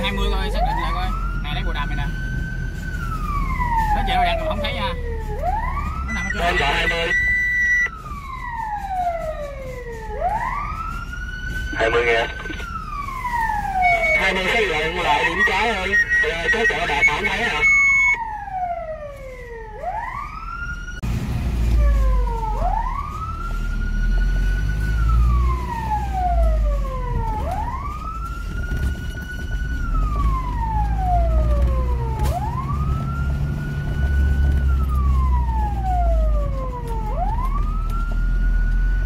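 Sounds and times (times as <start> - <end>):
engine and road rumble: 0.0 - 39.0
fire engine siren wailing: 0.0 - 39.0.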